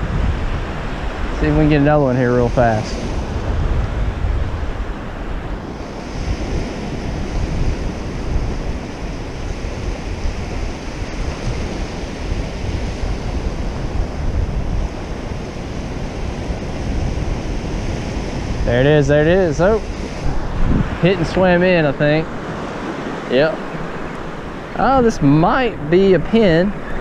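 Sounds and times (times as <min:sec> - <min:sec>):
surf waves breaking on sand: 0:00.0 - 0:27.0
wind buffeting microphone: 0:00.0 - 0:27.0.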